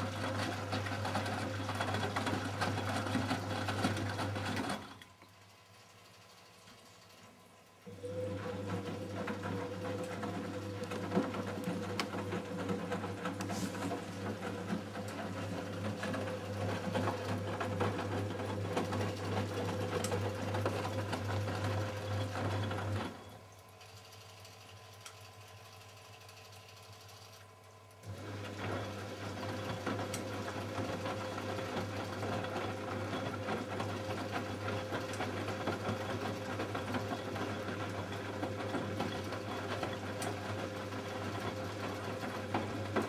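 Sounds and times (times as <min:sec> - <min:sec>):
washing machine drum motor humming: 0:00.0 - 0:43.0.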